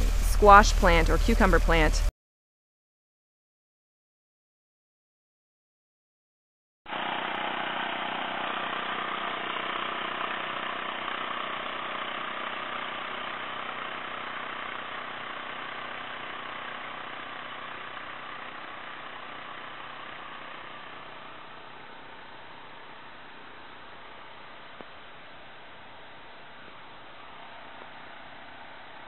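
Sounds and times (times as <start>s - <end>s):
power tiller engine running: 0.0s - 2.1s, 6.9s - 29.0s.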